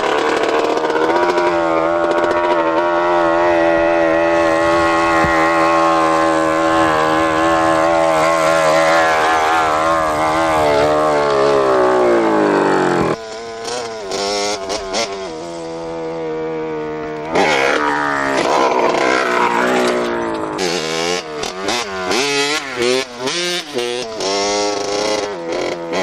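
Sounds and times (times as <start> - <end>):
motorbike engine revving: 0.0 - 26.0
motorbike throttle blips: 0.0 - 26.0.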